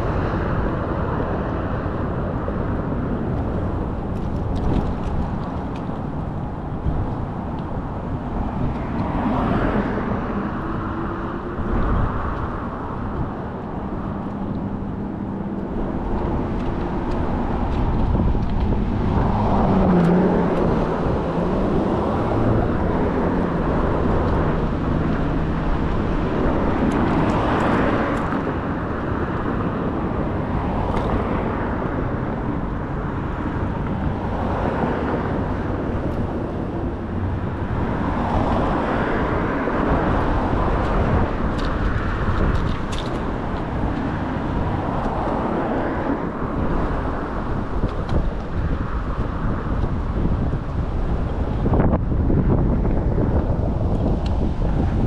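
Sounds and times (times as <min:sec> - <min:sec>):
vehicles passing: 0:00.0 - 0:55.0
wind rumble on microphone: 0:00.0 - 0:55.0.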